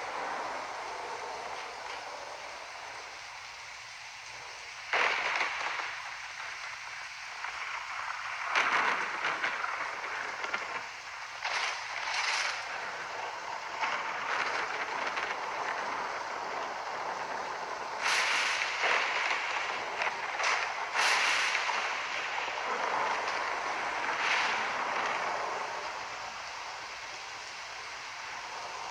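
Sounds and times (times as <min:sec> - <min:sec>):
rain rushing: 0:00.0 - 0:28.9.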